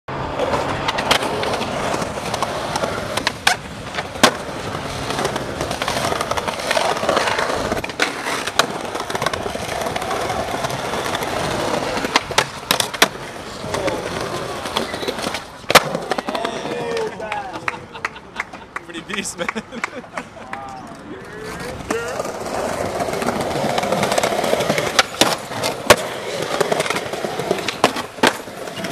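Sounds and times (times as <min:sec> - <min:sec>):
skateboard rolling over stone: 0:00.2 - 0:17.1, 0:21.4 - 0:28.9
skateboard clacks: 0:00.2 - 0:28.9.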